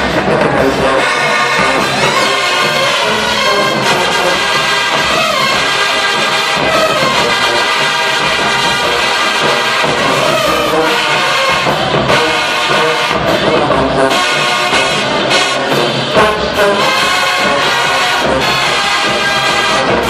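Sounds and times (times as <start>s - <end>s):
brass section chords: 0.0s - 20.0s
marching drum strokes: 0.0s - 20.0s.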